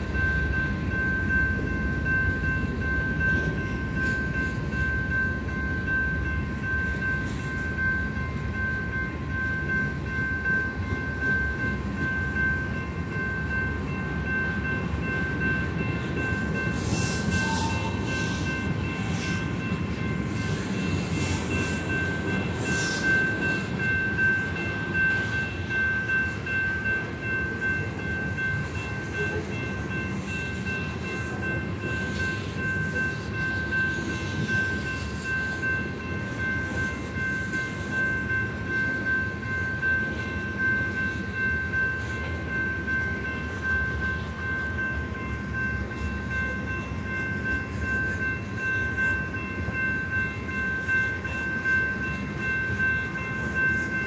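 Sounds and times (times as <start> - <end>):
crossing warning bell ringing: 0.0 - 54.0
freight train rumbling and clacking: 0.0 - 54.0.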